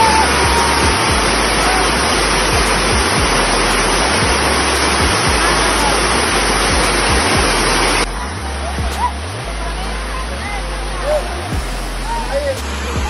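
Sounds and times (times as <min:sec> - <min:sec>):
music with steady beat: 0:00.0 - 0:13.0
water pouring down waterfall: 0:00.0 - 0:13.0.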